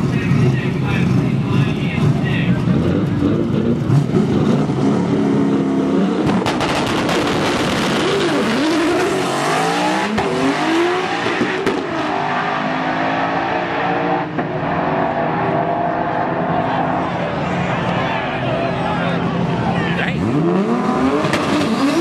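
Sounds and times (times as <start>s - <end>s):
drag car engine at full throttle: 0.0s - 22.0s.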